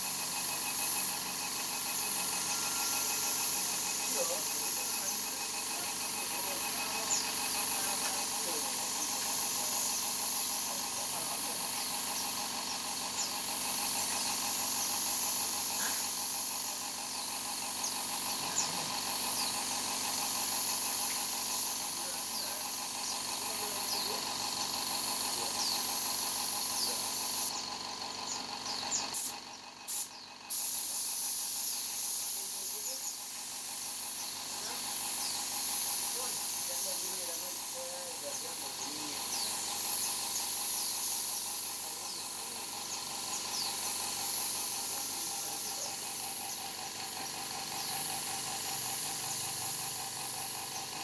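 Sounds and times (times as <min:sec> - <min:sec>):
spray gun hissing: 0:00.0 - 0:27.6, 0:29.1 - 0:51.0
steady multi-tone hum: 0:00.0 - 0:51.0.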